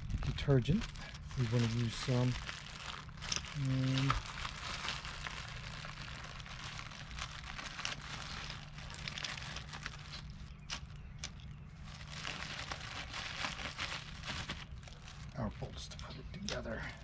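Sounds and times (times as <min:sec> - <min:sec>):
packaging rustling and crinkling: 0:00.0 - 0:16.1.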